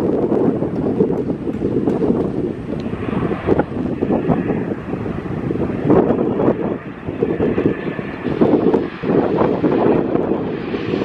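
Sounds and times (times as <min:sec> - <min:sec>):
distant jet engines rumbling: 0:00.0 - 0:11.0
wind on microphone: 0:00.0 - 0:11.0.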